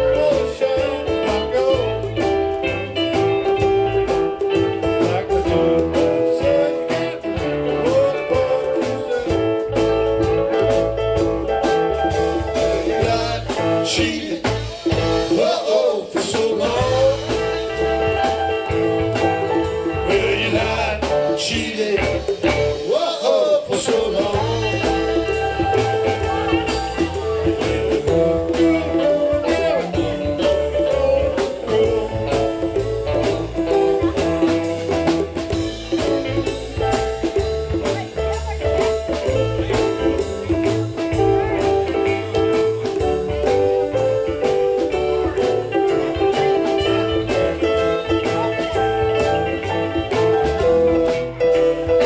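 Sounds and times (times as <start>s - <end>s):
blues band playing: 0.0s - 52.0s
guitar lead with bending notes: 0.0s - 52.0s.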